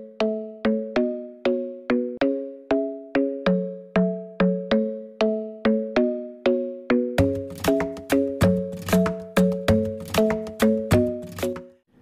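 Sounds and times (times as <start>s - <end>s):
light melody of struck notes: 0.2s - 11.8s.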